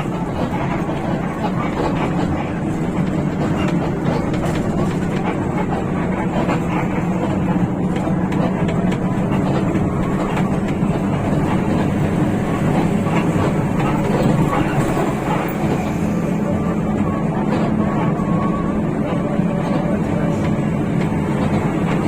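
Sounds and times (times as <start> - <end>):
bus diesel engine drone: 0.0 - 22.0
road noise: 0.0 - 22.0.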